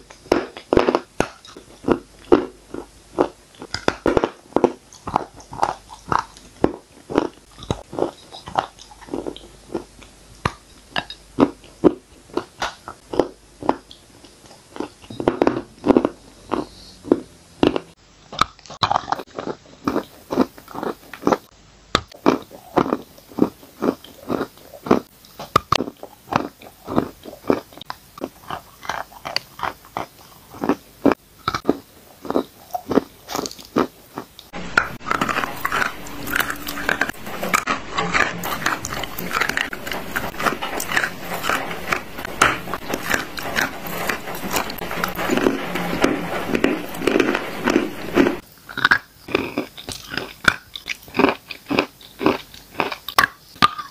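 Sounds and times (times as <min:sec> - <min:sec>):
chewing chalk crunches: 0:00.0 - 0:53.9.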